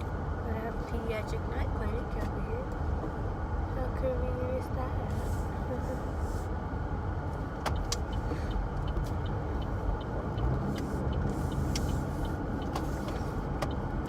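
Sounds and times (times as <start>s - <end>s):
engine and road noise rumble: 0.0s - 14.0s
turn signal ticking: 0.0s - 14.0s.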